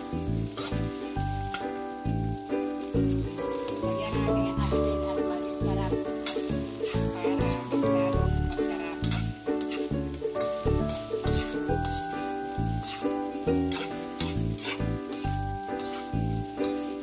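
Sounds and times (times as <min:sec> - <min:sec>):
rice sizzling in a wok: 0:00.0 - 0:17.0.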